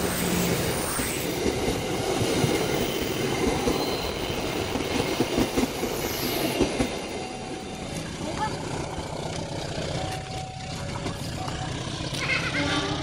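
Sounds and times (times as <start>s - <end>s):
train coaches rumbling past: 0.0s - 13.0s
wheels clacking on rails: 0.0s - 13.0s.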